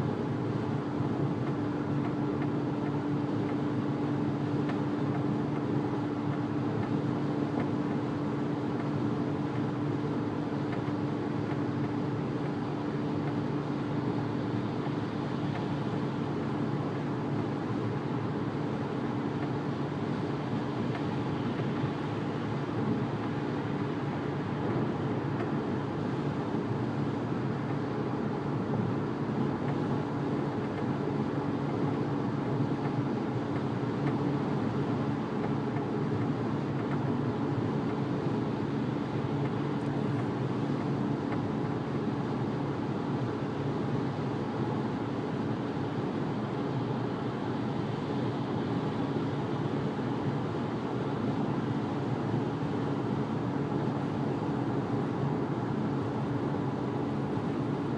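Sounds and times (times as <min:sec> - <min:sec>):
car engine hum while driving: 0:00.0 - 0:57.9.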